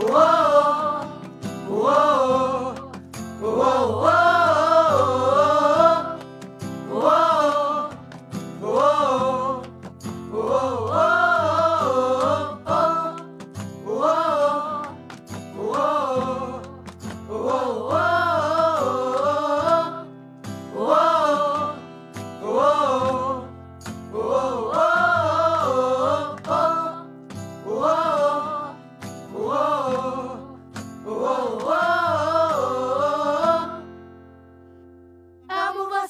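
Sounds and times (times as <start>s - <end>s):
voices singing wordless phrases: 0.0s - 6.2s, 6.8s - 20.1s, 20.7s - 23.5s, 24.1s - 34.0s, 35.5s - 36.0s.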